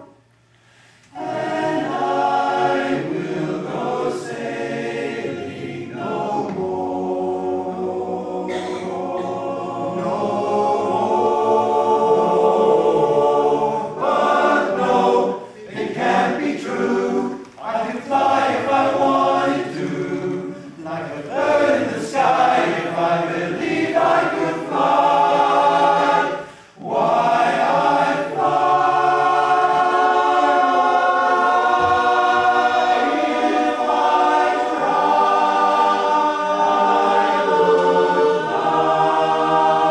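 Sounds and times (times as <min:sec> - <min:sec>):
male chorus singing a cappella: 0:01.1 - 0:39.9.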